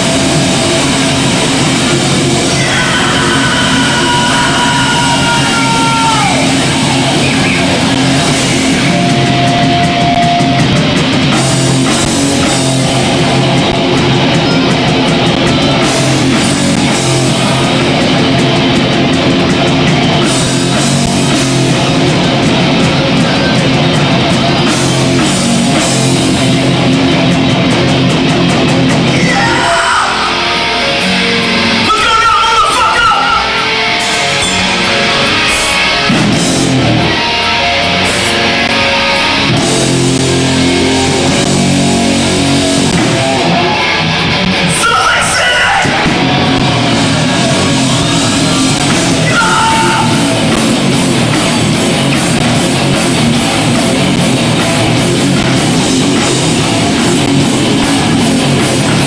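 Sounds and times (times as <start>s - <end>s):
bending guitar notes: 0.0s - 59.0s
punk band playing live: 0.0s - 59.0s.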